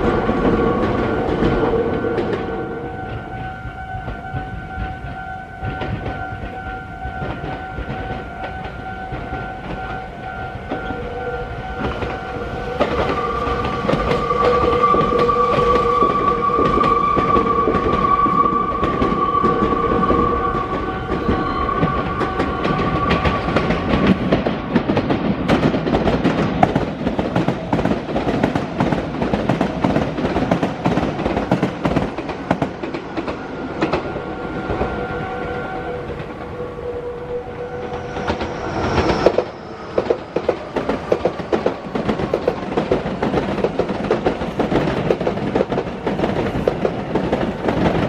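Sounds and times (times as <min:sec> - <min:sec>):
steady tones: 0:00.0 - 0:44.0
electric train running: 0:00.0 - 0:48.0.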